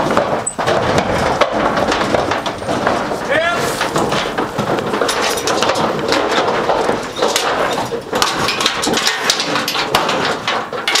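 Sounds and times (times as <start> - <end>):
hooves clattering on trailer floor: 0.0 - 11.0
steady rumbling noise: 0.0 - 11.0.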